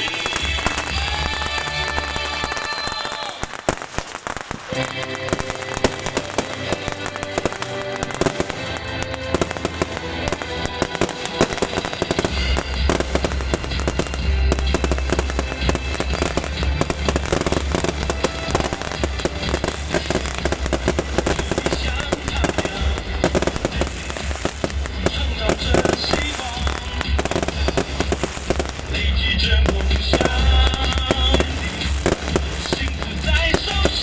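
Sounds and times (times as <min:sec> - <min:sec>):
fireworks crackling: 0:00.0 - 0:34.0
music: 0:00.0 - 0:34.0
heavy bass: 0:04.8 - 0:34.0.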